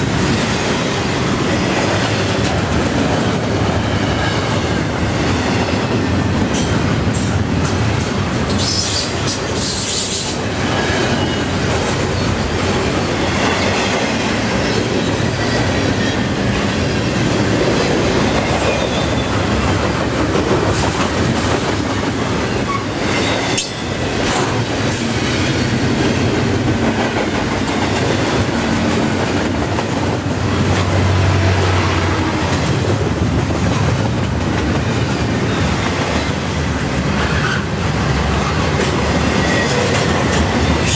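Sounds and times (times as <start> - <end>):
clickety-clack over rail joints: 0.0 - 40.9
freight train wheels rumbling: 0.0 - 40.9.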